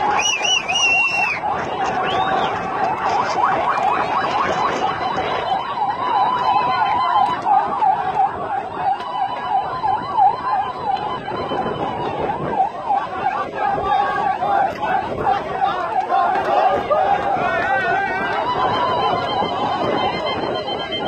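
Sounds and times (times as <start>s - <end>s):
marching crowd: 0.0s - 21.0s
siren yelping: 0.0s - 21.0s.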